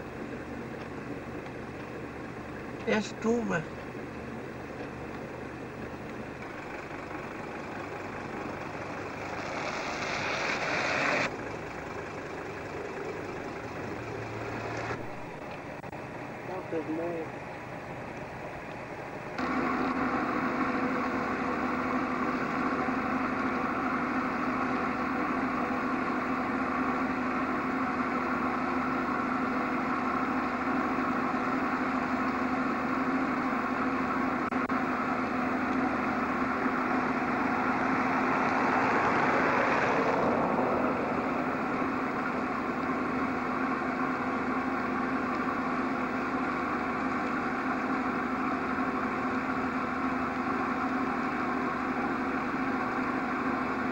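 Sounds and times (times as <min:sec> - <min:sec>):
large engine droning: 0:00.0 - 0:53.9.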